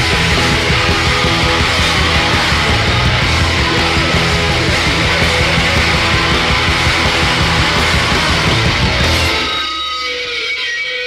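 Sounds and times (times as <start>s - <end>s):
heavy math rock band: 0.0s - 11.0s.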